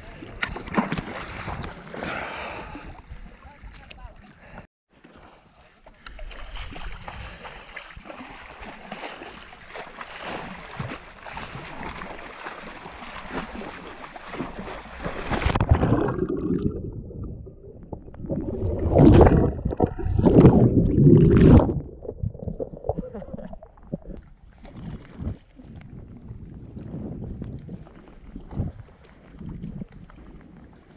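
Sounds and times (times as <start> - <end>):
muffled water sloshing: 0.1 - 30.9.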